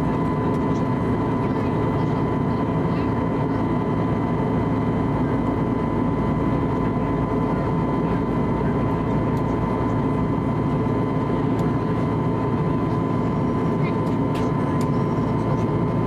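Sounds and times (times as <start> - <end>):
airplane cabin air rush and hum: 0.0 - 16.0
thin steady whine: 0.0 - 16.0.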